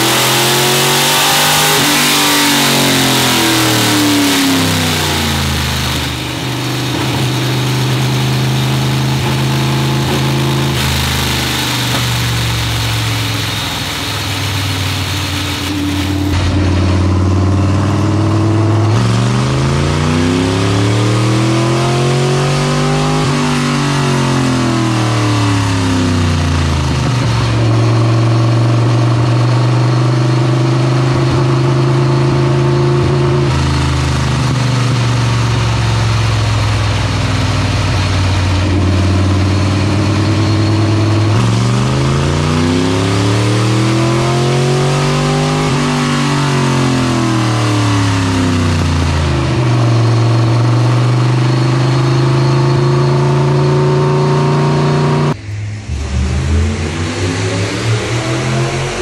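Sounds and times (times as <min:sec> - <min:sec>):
engine revving on a dyno: 0:00.0 - 0:59.0.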